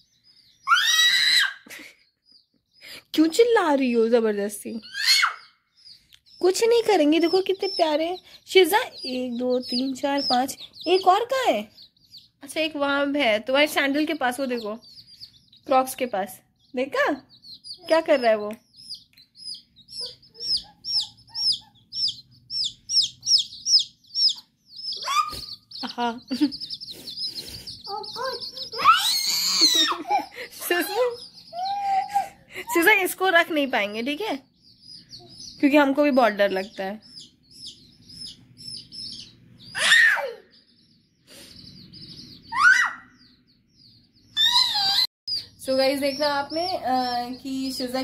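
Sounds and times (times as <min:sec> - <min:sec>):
chicks peeping: 0:00.0 - 0:48.0.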